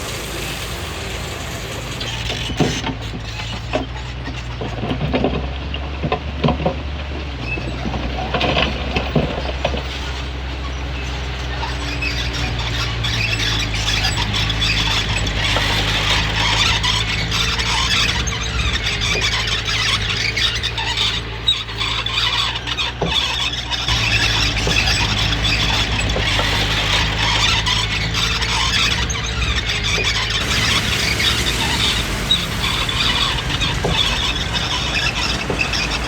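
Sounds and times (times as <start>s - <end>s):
diesel engine running: 0.0s - 4.1s, 7.9s - 36.0s
steel tracks squealing and scraping: 0.0s - 4.8s, 7.4s - 36.0s.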